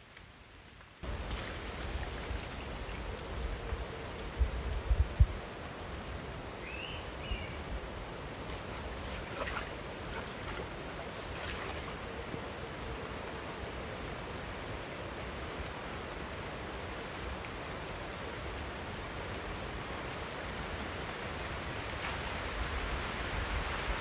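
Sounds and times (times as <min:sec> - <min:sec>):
outdoor hiss: 0:00.0 - 0:24.0.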